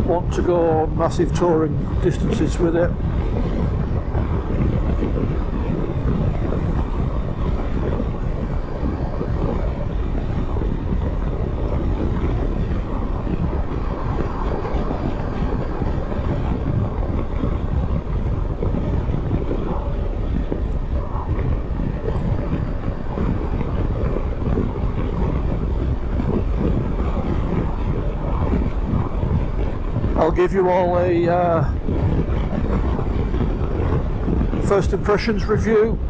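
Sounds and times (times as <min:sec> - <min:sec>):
motorcycle riding noise: 0:02.9 - 0:34.6.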